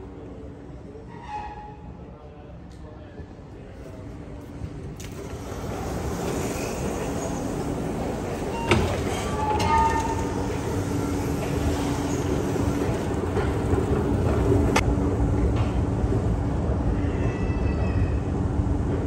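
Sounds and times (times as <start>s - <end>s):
low rumble in metro station: 0.0s - 19.0s.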